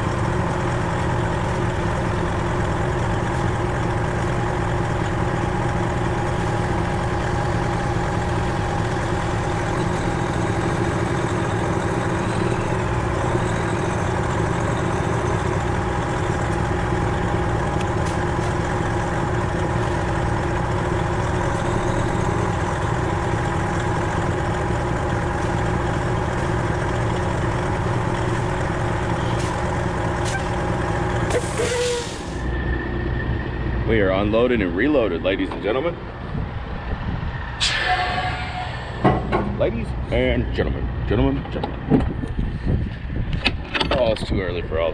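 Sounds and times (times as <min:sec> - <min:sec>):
diesel truck engine idling: 0:00.0 - 0:43.6.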